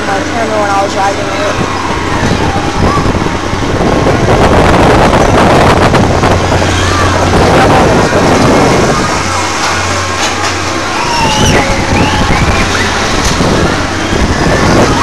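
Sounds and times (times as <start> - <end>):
carnival ride mechanical rush: 0.0 - 15.0
low hum: 0.0 - 15.0.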